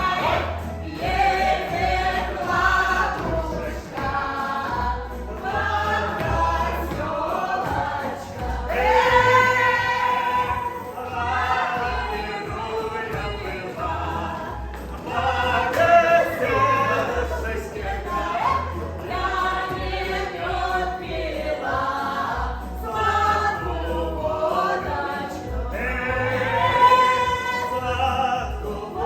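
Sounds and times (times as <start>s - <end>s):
bass line: 0.0s - 29.0s
choir singing: 0.0s - 29.0s.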